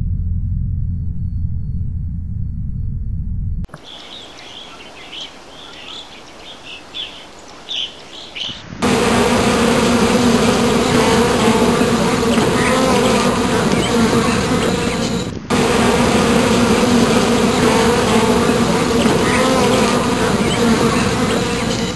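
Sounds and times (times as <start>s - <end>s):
honeybee colony buzzing: 4.1s - 21.9s.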